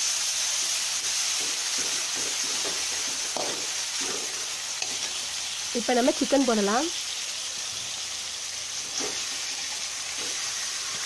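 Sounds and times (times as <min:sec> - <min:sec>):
onion and tomato sizzling in oil: 0:00.0 - 0:11.0.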